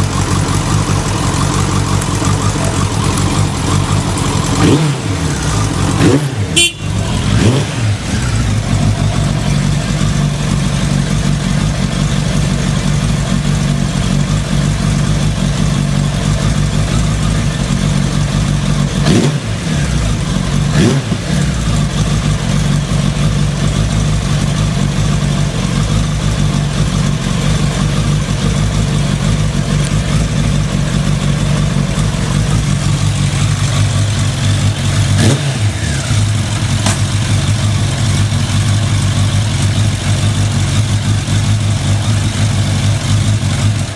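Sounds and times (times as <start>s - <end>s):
motorcycle engine idling: 0.0s - 43.9s
motorcycle throttle blips: 0.0s - 43.9s.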